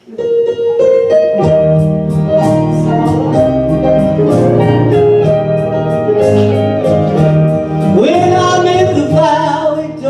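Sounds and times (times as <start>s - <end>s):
live country gospel band: 1.4s - 10.0s.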